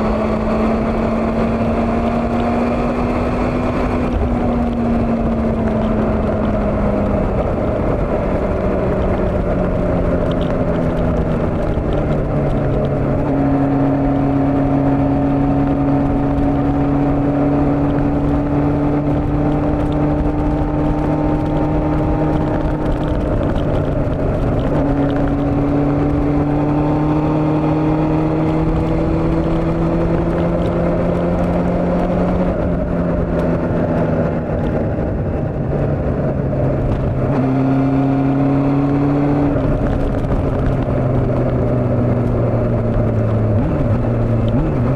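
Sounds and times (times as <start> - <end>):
motorcycle engine running: 0.0 - 44.9
wind noise: 0.0 - 44.9.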